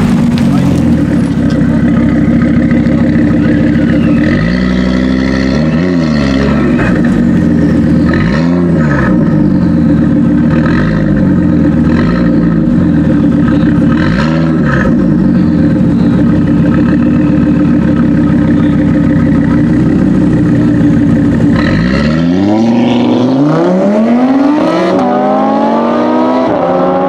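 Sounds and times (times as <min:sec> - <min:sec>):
exhaust crackles: 0:00.0 - 0:26.6
car engine revving: 0:00.0 - 0:27.0.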